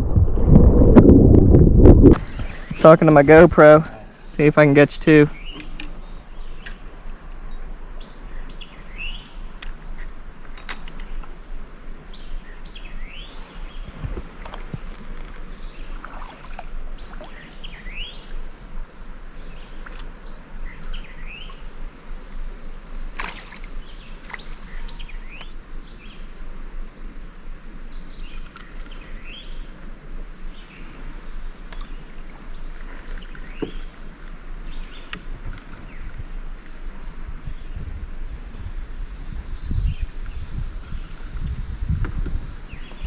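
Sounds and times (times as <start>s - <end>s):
steady outdoor background: 0.0s - 43.0s
birds chirping: 2.2s - 22.0s, 23.4s - 41.6s, 42.6s - 43.0s.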